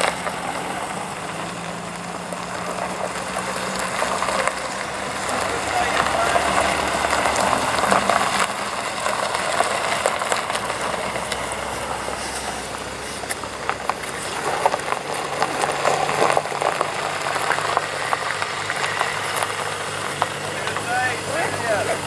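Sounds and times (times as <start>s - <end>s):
car engines running at low speed: 0.0s - 22.0s.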